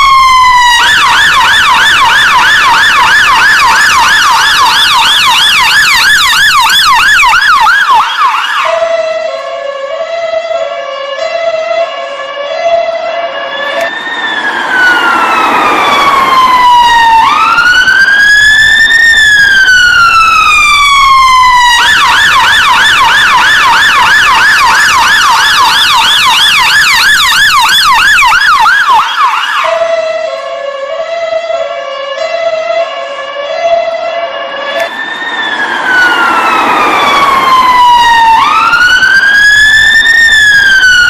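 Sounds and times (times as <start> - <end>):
ambulance siren: 0.0 - 41.0.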